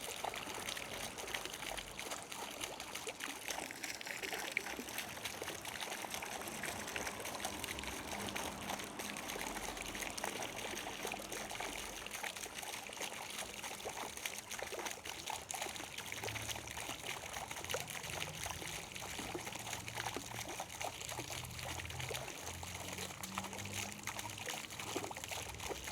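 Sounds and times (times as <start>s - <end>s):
water trickling and splashing: 0.0s - 25.9s.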